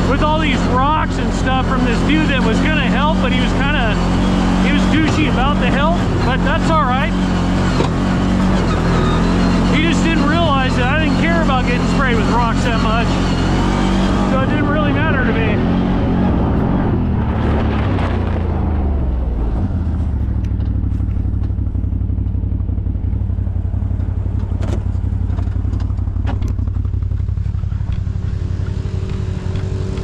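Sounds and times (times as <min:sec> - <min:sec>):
engine idling: 0:00.0 - 0:16.6, 0:17.7 - 0:30.0
higher engine tone: 0:00.0 - 0:30.0.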